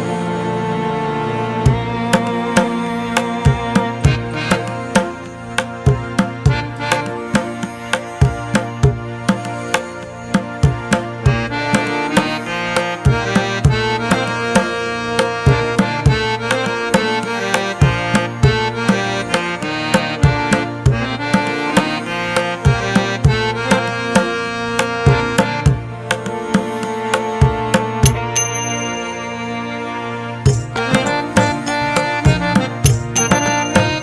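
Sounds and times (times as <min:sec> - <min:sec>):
sustained melody: 0:00.0 - 0:34.0.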